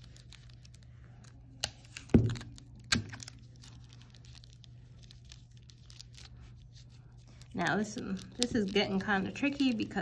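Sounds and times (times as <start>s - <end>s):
plastic handling: 0.0s - 10.0s.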